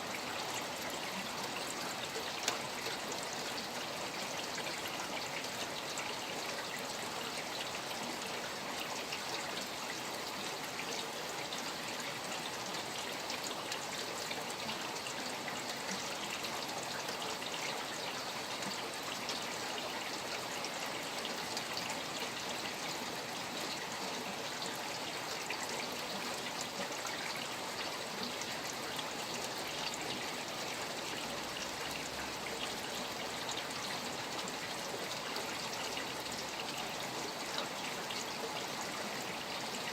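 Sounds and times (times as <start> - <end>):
steady rain falling: 0.0 - 39.9
stream flowing: 0.0 - 39.9.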